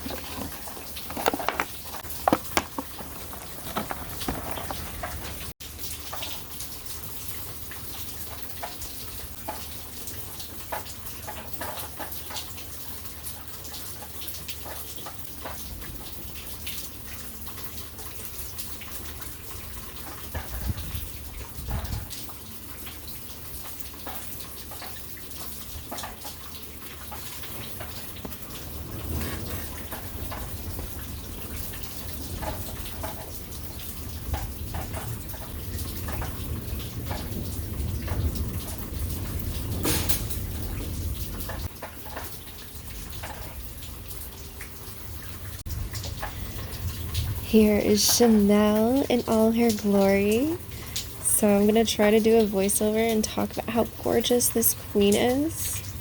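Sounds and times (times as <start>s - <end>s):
rain falling: 0.0s - 56.0s
raindrops tapping: 0.0s - 56.0s.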